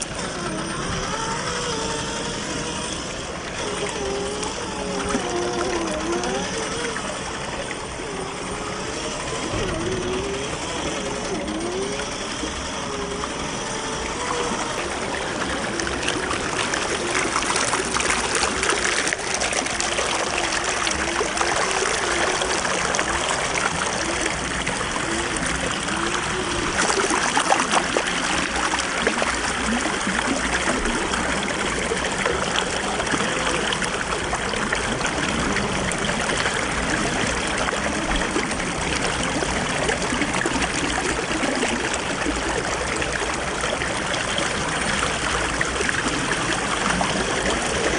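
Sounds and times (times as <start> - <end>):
faint electric motor whine: 0.0 - 47.9
stream running: 0.0 - 47.9.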